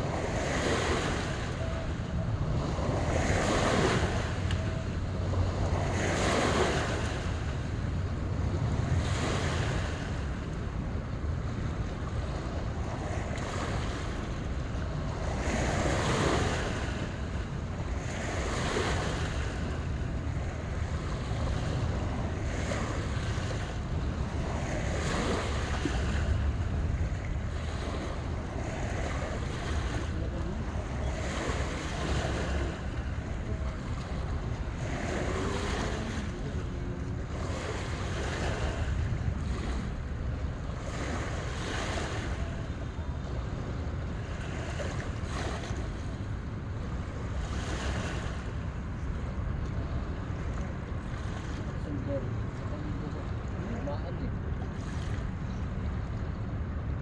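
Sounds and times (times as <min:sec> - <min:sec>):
small waves washing onto shore: 0:00.0 - 0:57.0
wind rumble on microphone: 0:00.0 - 0:57.0.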